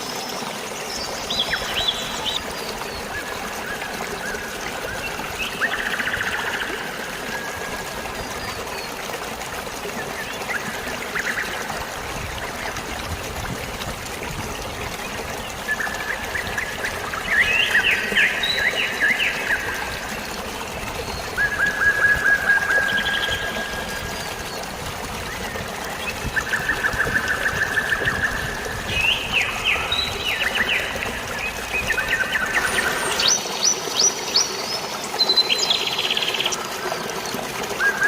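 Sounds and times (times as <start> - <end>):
flowing water splashing: 0.0 - 38.0.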